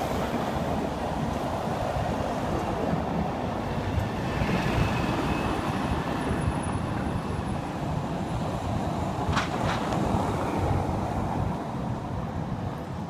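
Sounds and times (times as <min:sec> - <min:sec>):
car traffic on cobblestones: 0:00.0 - 0:13.0.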